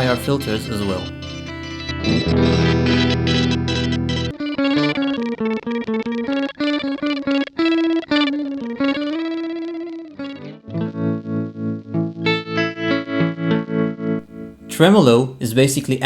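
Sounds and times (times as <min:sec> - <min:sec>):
electric guitar with effects: 0:00.0 - 0:15.6.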